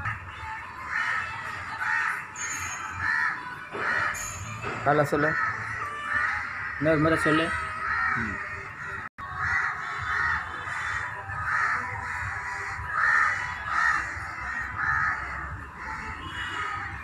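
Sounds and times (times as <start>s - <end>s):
crows cawing: 0.8s - 17.0s.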